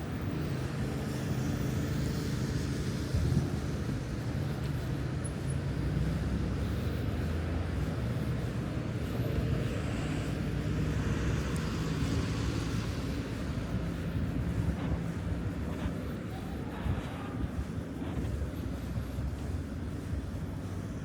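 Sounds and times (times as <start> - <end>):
traffic engine rumble: 0.0 - 21.0
vehicle passing: 3.1 - 21.0.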